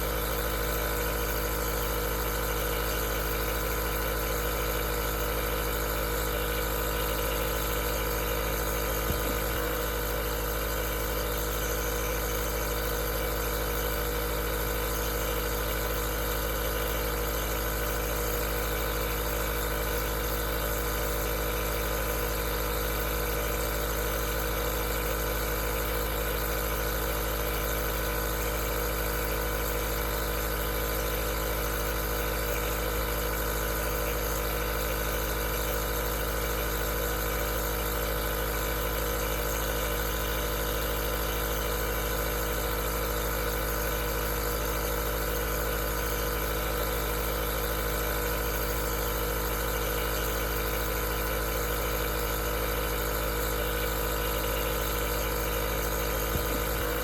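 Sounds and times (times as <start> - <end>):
nebulizer compressor humming: 0.0 - 57.0.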